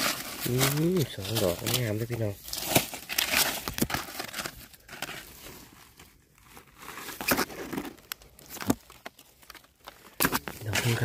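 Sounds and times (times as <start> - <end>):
dry leaves crackling and rustling: 0.0 - 11.0.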